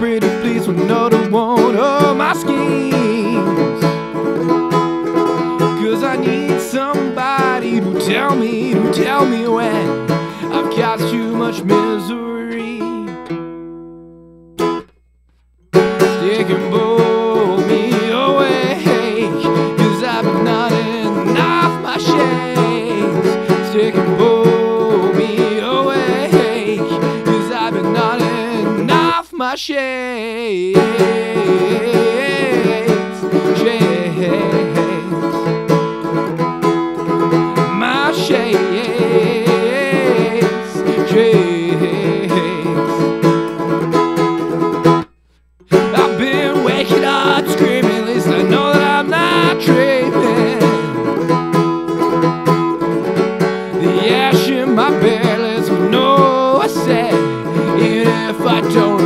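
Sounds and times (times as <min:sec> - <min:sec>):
band with plucked strings: 0:00.0 - 0:29.2, 0:30.7 - 0:59.0.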